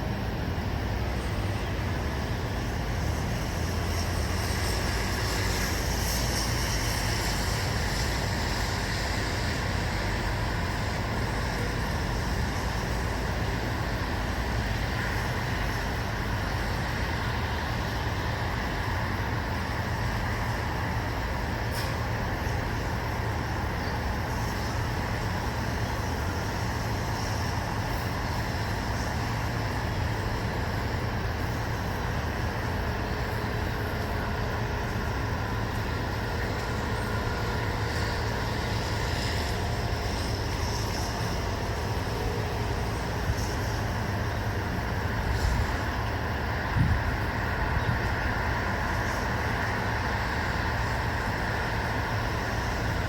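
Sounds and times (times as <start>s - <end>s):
rushing hiss: 0.2s - 53.0s.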